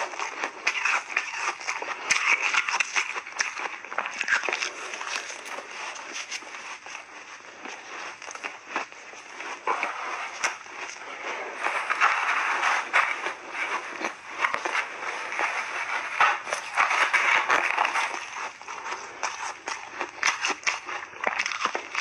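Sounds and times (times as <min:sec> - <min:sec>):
shaved ice crunching: 0:00.0 - 0:22.0.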